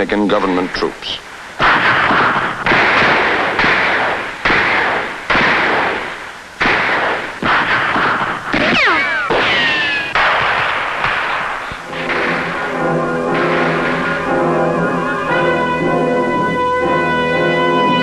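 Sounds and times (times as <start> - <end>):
gunshots with echo: 0.0 - 18.0.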